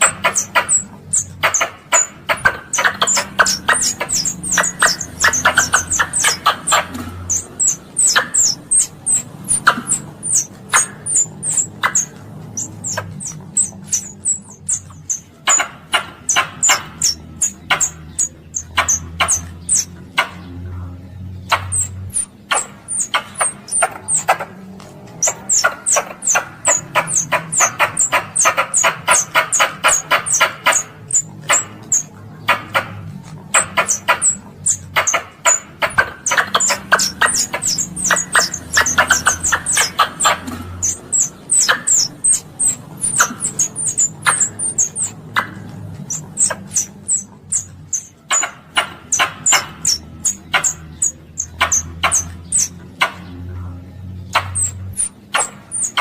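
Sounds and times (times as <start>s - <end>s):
squirrel chattering: 0.0s - 56.0s.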